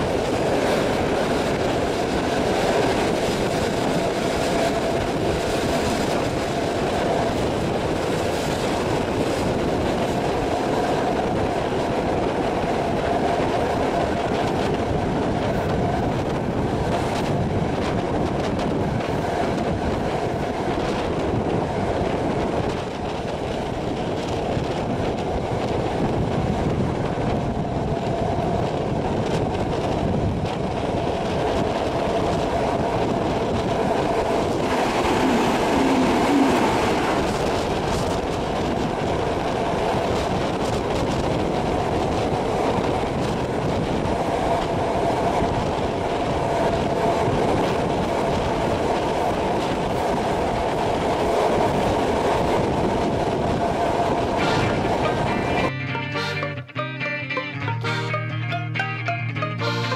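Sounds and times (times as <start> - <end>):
train wheels rumbling on rails: 0.0 - 55.7.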